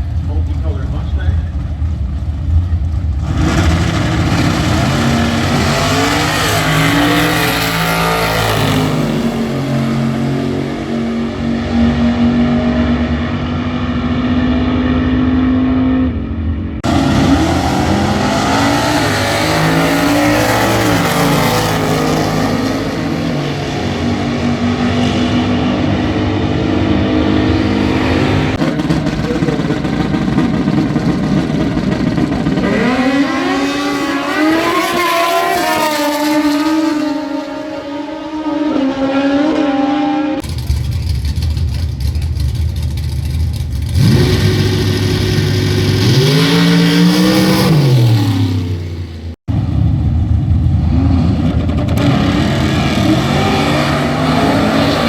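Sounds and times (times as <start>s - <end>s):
drag racing engines at full throttle: 0.0s - 55.0s.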